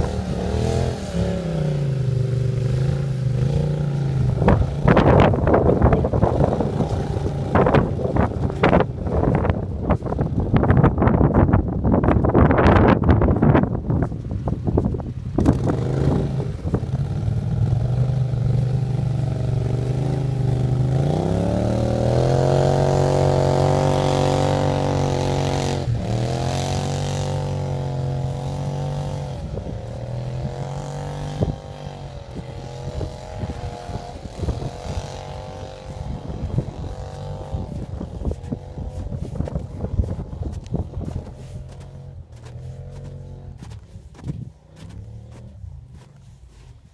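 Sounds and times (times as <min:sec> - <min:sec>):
atv engine revving: 0:00.0 - 0:46.7.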